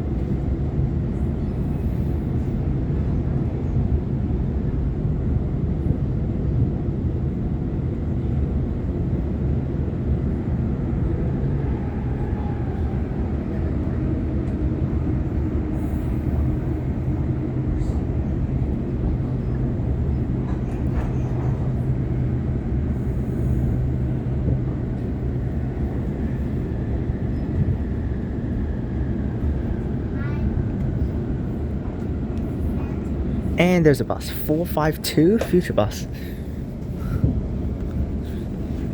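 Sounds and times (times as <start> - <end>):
train wheels rumbling on track: 0.0 - 33.6, 35.3 - 38.9.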